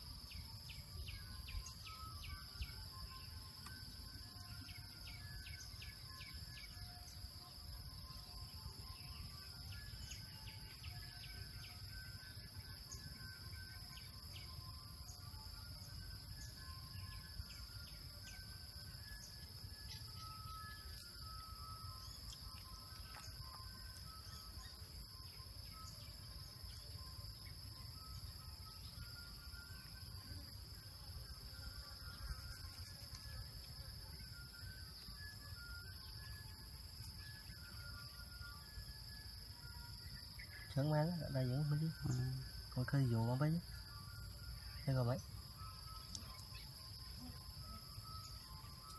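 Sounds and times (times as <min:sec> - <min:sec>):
high-pitched insect drone: 0:00.0 - 0:48.9
bird chirps: 0:00.2 - 0:48.9.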